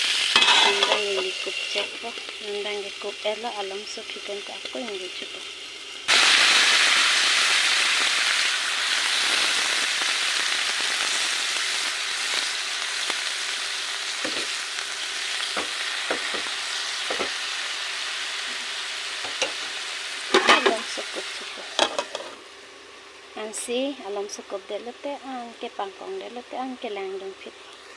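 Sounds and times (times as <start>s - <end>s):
food sizzling in hot oil: 0.0s - 27.9s.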